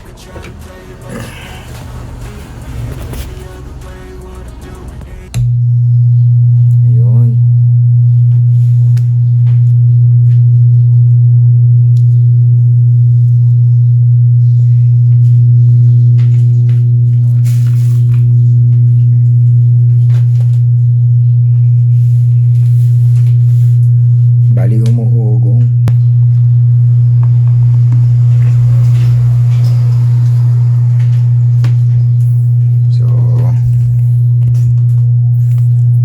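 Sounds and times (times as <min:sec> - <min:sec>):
speaker loud low hum: 0:00.0 - 0:36.0.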